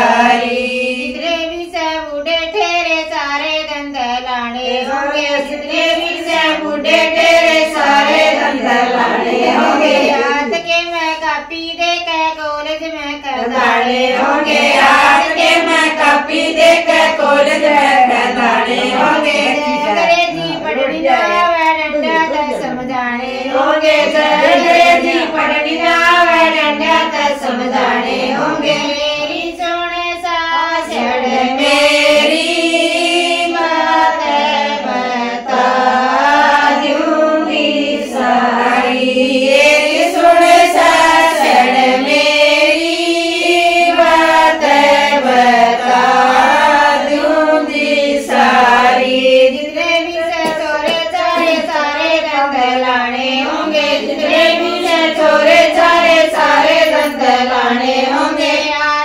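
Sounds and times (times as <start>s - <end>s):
women singing a folk song: 0.0s - 59.0s.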